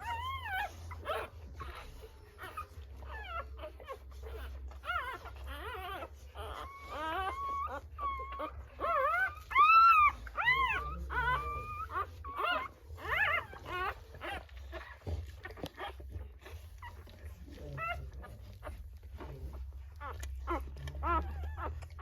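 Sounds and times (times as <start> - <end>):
dog whimpering: 0.0 - 22.0.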